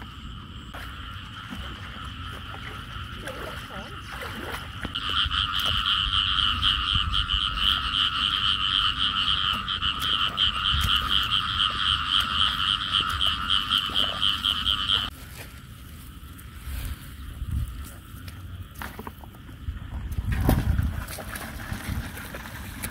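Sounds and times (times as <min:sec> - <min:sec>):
frogs croaking: 0:00.0 - 0:22.8.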